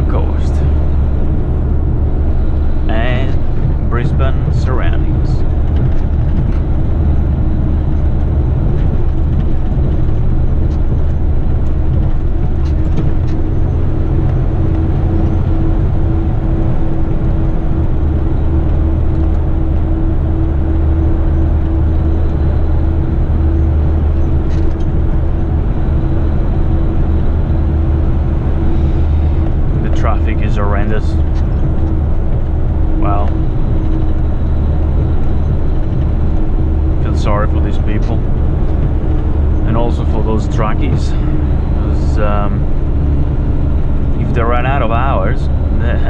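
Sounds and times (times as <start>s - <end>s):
road and tyre noise: 0.0s - 46.0s
steady hum: 0.0s - 46.0s
truck engine drone: 0.0s - 46.0s.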